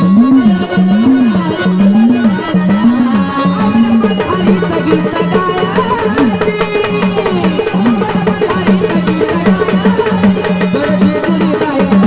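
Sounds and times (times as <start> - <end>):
drums playing steady rhythm: 0.0 - 12.0.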